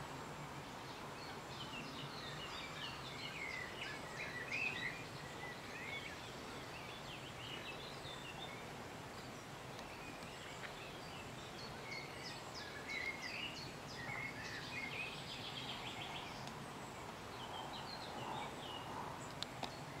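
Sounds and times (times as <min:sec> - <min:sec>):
background hiss: 0:00.0 - 0:20.0
nightingale singing: 0:00.0 - 0:20.0.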